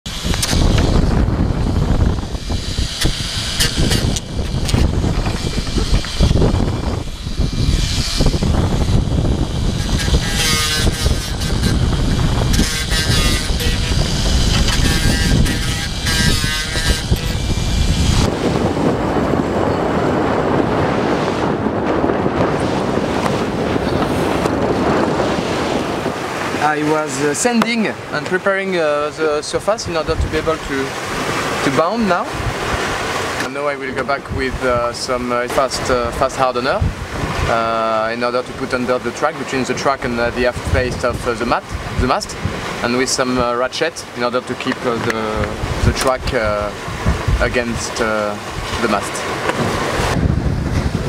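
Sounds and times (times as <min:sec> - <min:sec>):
rushing water: 0:00.1 - 0:51.0
wind buffeting microphone: 0:00.1 - 0:51.0.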